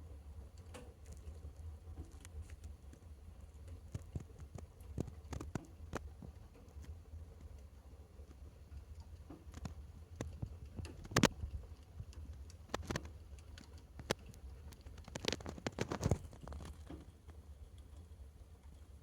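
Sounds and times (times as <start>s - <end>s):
fire crackling and popping: 0.6s - 7.6s, 8.2s - 17.4s.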